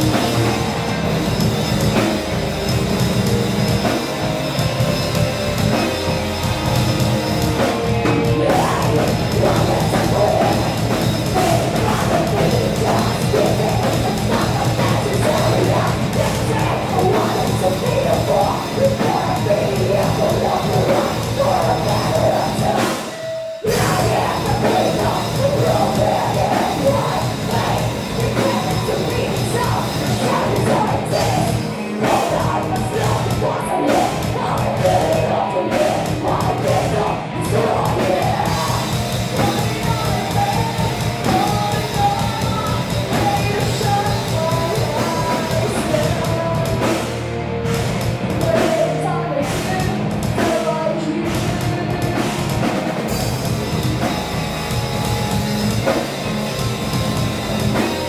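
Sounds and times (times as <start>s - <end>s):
singer's vocals: 0.0s - 54.2s
rock band playing: 0.0s - 58.0s.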